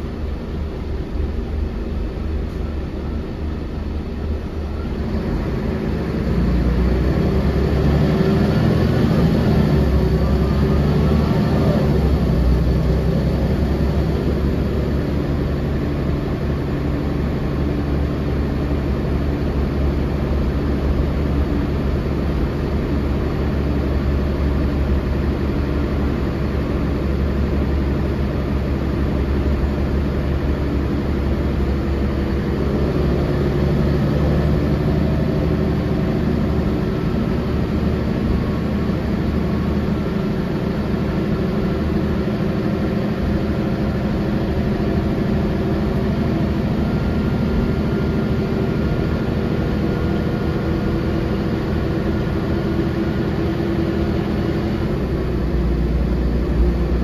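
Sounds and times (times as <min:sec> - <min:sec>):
bus engine running: 0:00.0 - 0:57.0
road noise: 0:00.0 - 0:57.0.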